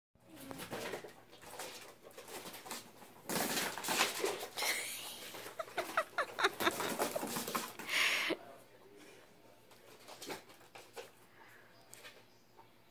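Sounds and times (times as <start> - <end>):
guinea pigs scampering: 0.2 - 12.9.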